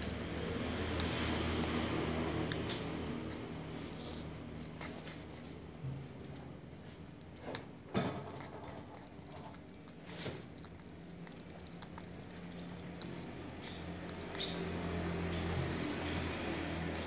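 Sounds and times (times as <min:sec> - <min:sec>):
cat lapping water: 0:00.0 - 0:05.8, 0:06.7 - 0:17.0.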